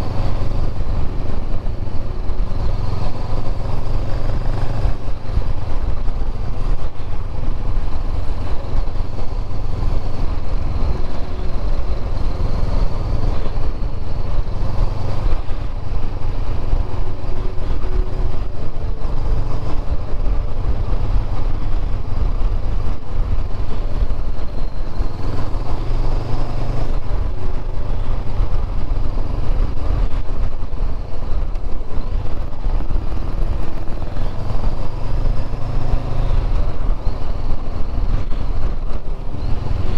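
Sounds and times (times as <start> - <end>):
low wind rumble on microphone: 0.0 - 39.9
motorcycle engine running: 0.0 - 39.9.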